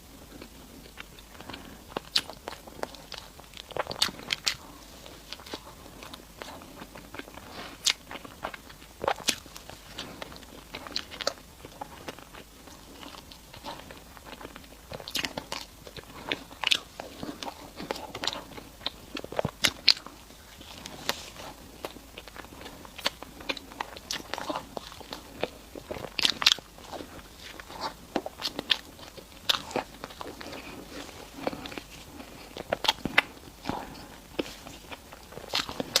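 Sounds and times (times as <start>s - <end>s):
person chewing and biting food: 0.0s - 36.0s
mouth clicks and crackles: 0.2s - 36.0s.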